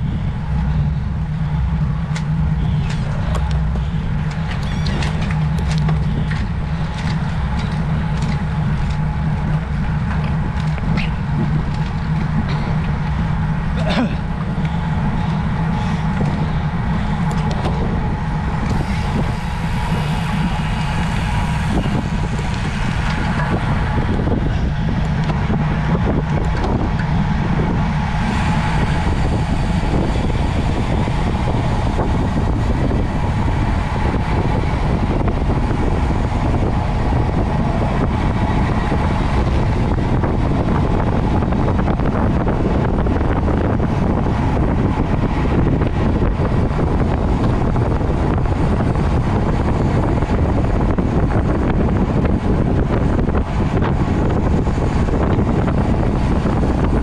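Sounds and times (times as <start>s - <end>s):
bicycle wind and road noise: 0.0s - 57.0s.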